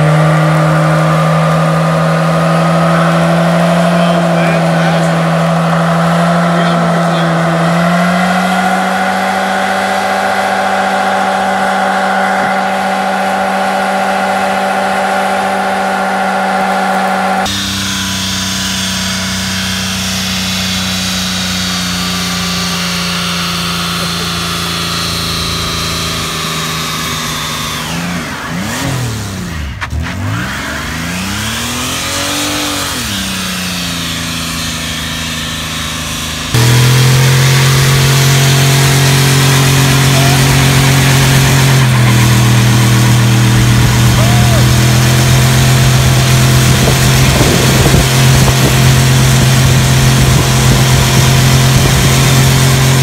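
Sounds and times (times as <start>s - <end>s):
car engines revving in burnouts: 0.0s - 53.0s.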